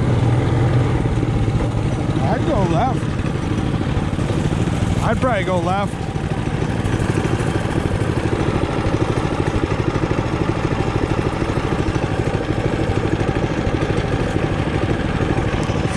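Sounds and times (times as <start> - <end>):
small motorbike engine running: 0.0 - 15.9.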